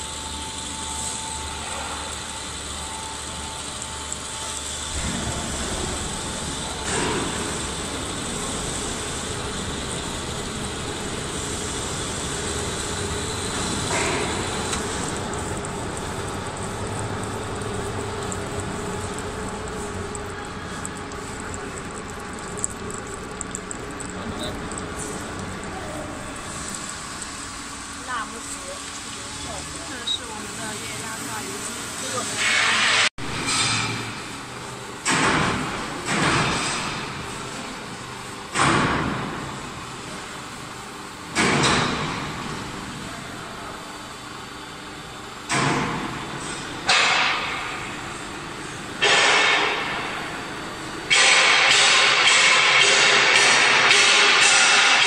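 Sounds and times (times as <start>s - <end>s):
hydraulic press humming and hissing: 0.0s - 55.0s
workshop background noise: 0.0s - 55.0s.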